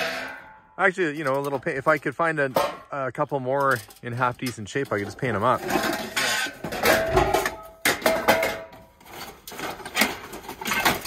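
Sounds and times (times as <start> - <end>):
metal hubcaps clattering: 0.0 - 11.0.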